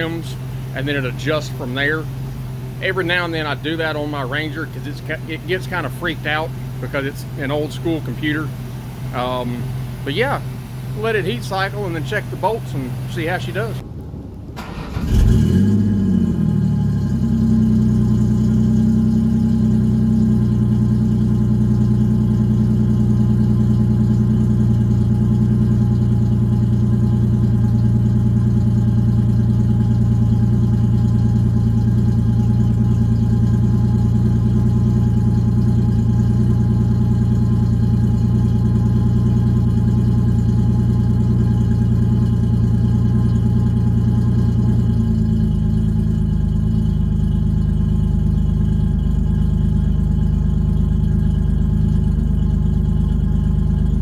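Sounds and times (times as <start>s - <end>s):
car engine revving and idling: 0.0s - 13.9s, 14.6s - 54.0s.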